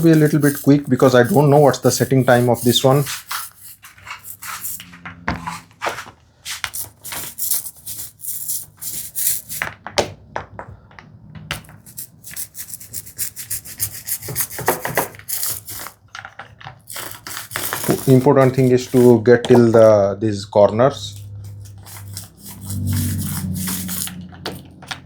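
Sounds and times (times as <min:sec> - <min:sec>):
paint roller rubbing on wood: 0:00.0 - 0:09.7, 0:11.7 - 0:16.0, 0:16.9 - 0:20.0, 0:20.9 - 0:25.0.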